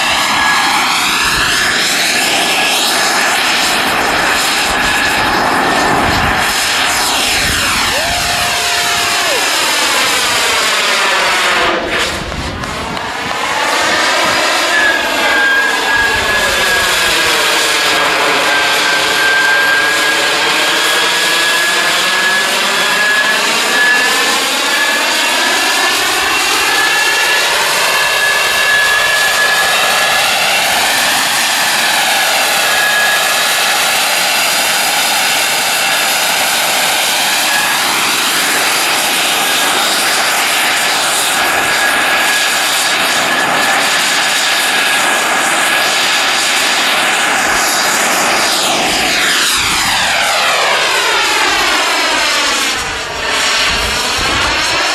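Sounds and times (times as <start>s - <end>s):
model jet turbine whistling: 0.0s - 54.9s.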